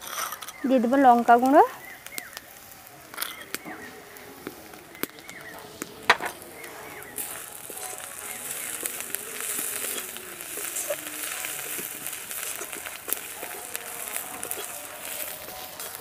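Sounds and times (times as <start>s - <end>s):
food sizzling and crackling in oil: 0.0s - 16.0s.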